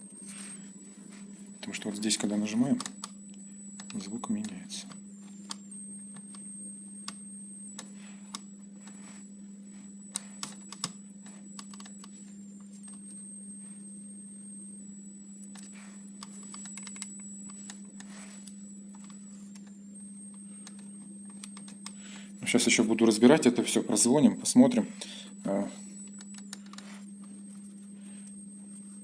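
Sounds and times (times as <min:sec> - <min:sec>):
high-pitched electronic whine: 0:00.0 - 0:29.0
steady low hum: 0:00.0 - 0:29.0.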